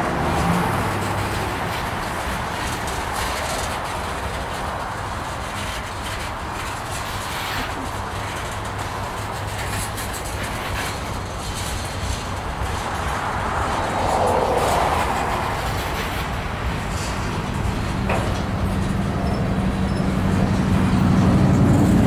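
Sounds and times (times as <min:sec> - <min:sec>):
freight cars rolling past: 0:00.0 - 0:22.0.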